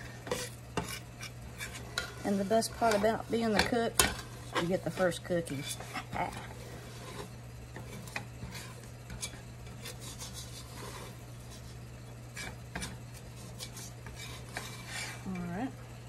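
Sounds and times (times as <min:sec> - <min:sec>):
steady low hum: 0:00.0 - 0:16.0
metal scoop scraping a pot: 0:00.2 - 0:15.5.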